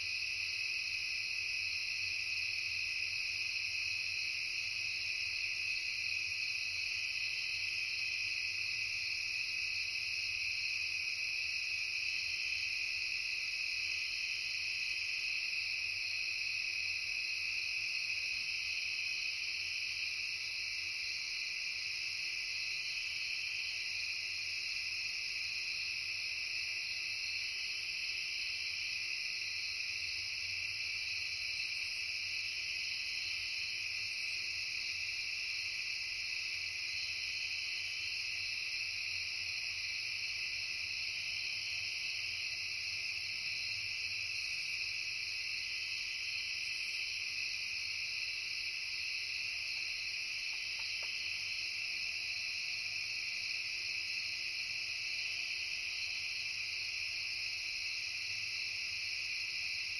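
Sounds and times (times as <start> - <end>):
chorus of crickets and insects: 0.0 - 59.9.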